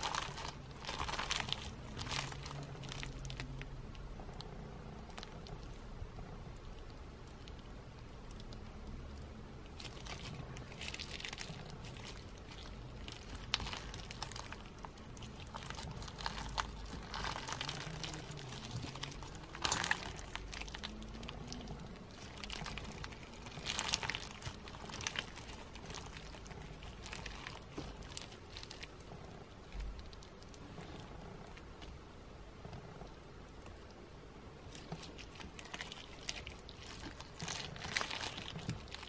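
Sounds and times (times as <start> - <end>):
slime crunchy crackling: 0.0 - 6.0, 6.6 - 34.0, 34.6 - 39.0.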